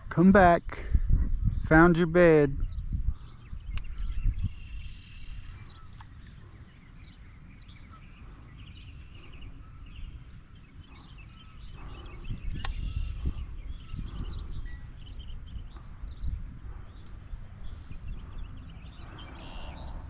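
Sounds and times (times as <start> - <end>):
wind buffeting microphone: 0.0 - 20.0
birds chirping faintly: 1.3 - 20.0.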